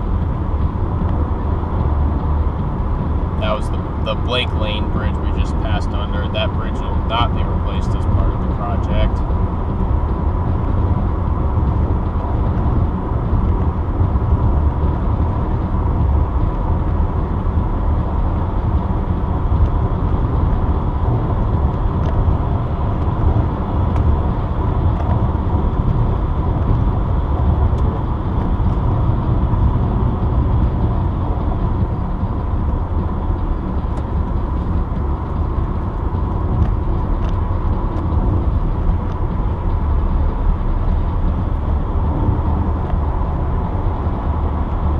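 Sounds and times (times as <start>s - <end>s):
engine hum: 0.0s - 44.9s.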